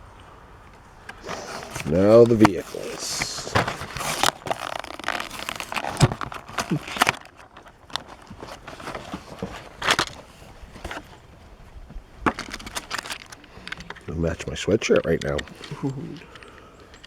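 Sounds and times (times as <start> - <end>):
toy packaging clicks and rustles: 1.1 - 11.1, 12.2 - 17.0.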